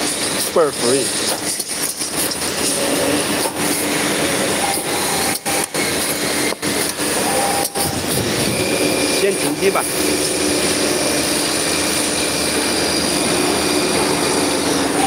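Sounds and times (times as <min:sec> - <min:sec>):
tube cutting machine whirring: 0:00.0 - 0:15.0.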